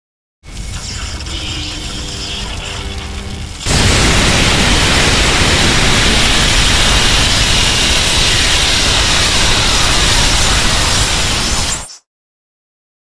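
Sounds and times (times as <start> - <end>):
monster noise rush: 0.5 - 11.9.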